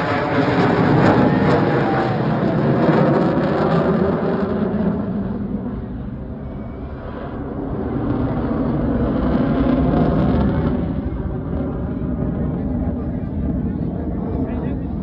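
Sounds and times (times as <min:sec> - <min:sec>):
jet aircraft passing: 0:00.0 - 0:15.0.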